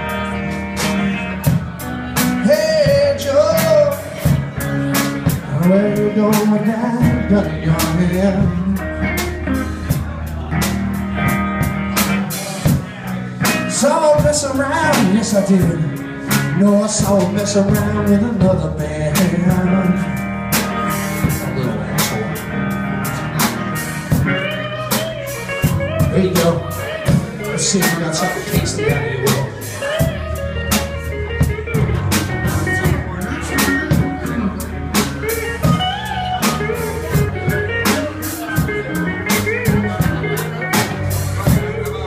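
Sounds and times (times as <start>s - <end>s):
blues-rock band playing: 0.0s - 42.0s
electric guitar sliding notes: 0.0s - 42.0s.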